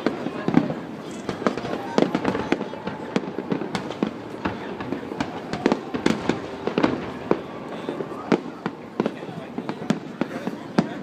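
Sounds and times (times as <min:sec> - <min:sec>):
fireworks bangs: 0:00.0 - 0:11.0
fireworks crackle: 0:00.0 - 0:11.0.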